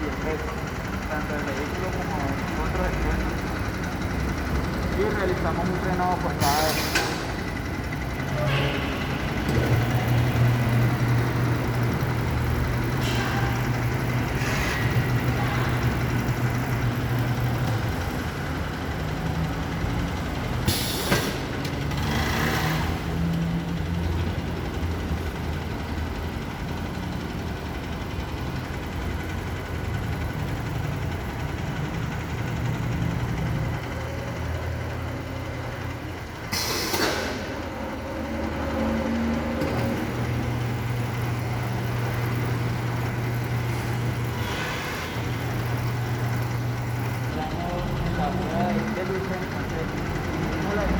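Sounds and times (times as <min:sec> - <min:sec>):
low mechanical hum: 0:00.0 - 0:50.9.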